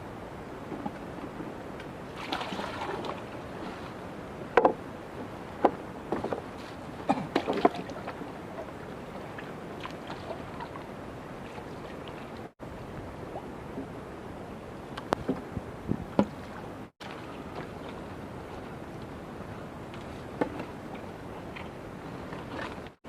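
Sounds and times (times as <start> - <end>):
water splashing around a boat: 0.0 - 23.0.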